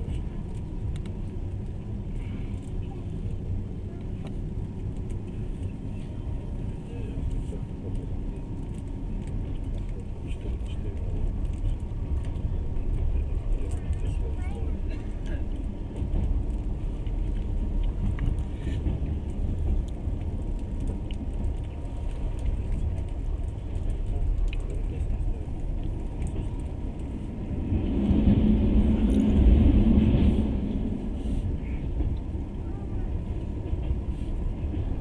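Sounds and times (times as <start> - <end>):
train rumble inside carriage: 0.0 - 35.0.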